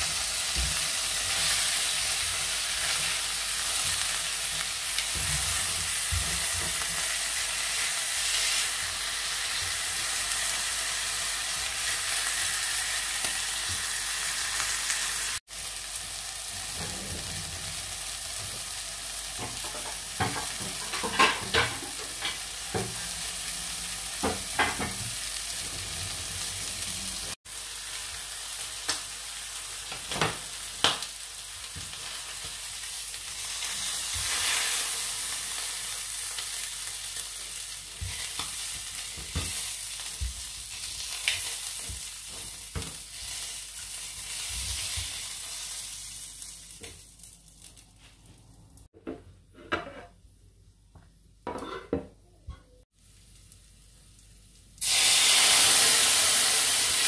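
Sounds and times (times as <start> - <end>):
squid sizzling in oil: 0.0 - 48.0, 52.9 - 57.0.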